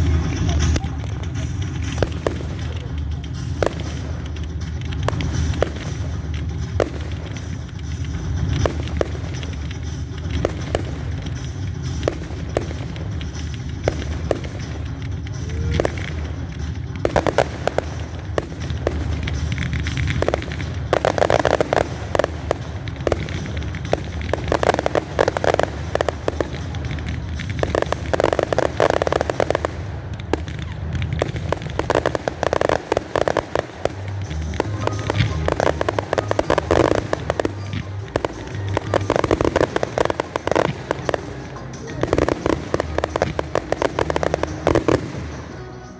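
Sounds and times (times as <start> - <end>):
crackling firework bursts: 0.0 - 45.9
music playing: 0.0 - 45.9.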